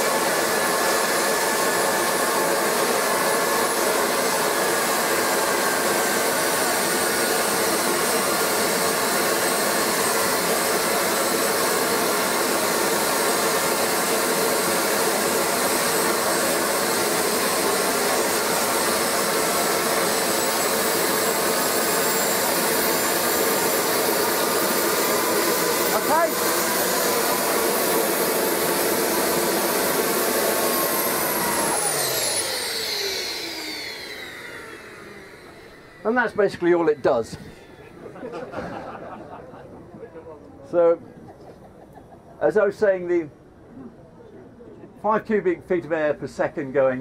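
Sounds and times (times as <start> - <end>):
jet engine running: 0.0 - 43.2.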